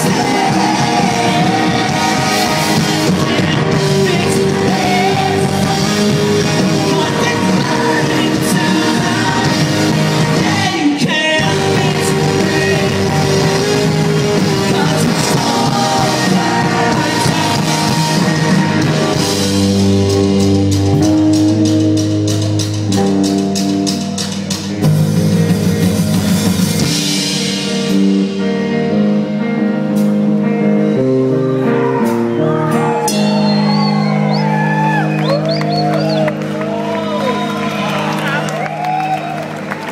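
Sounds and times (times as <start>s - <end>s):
held guitar chords: 0.0s - 39.9s
live rock band: 0.0s - 39.9s.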